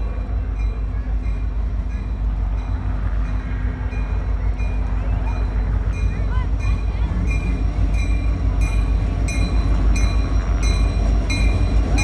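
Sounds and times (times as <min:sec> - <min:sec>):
diesel locomotive rumble: 0:00.0 - 0:12.0.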